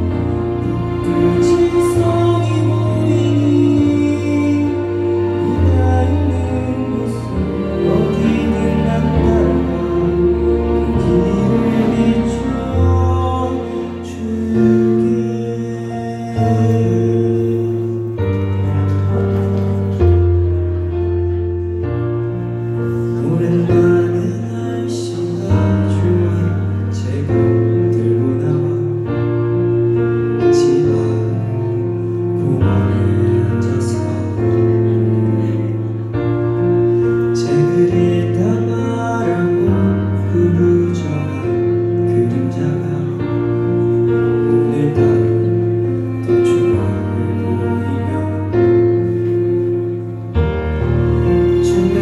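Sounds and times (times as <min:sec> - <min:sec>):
man singing into a microphone: 0:00.0 - 0:18.7, 0:22.8 - 0:50.1, 0:51.3 - 0:52.0
instrumental accompaniment: 0:00.0 - 0:52.0.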